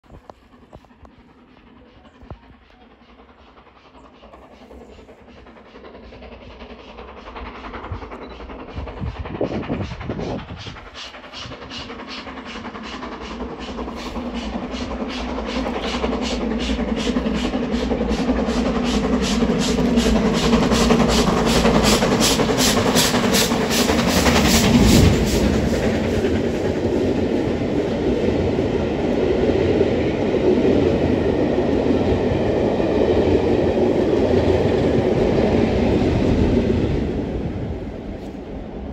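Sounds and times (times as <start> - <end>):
steam locomotive exhaust beats: 0.0 - 38.9
train coaches rumbling past: 0.0 - 38.9.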